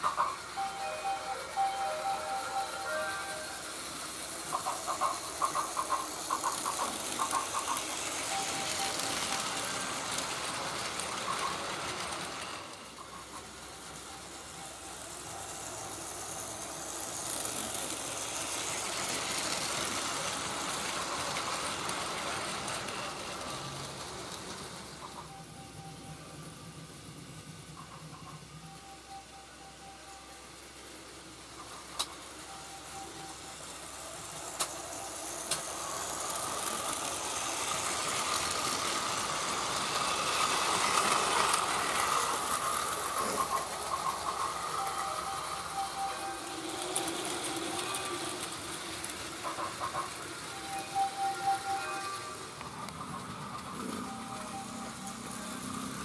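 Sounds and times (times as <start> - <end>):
toy train wheels rattling: 0.0 - 25.9, 30.1 - 56.0
toy train motor whirring: 0.0 - 29.0, 30.0 - 56.0.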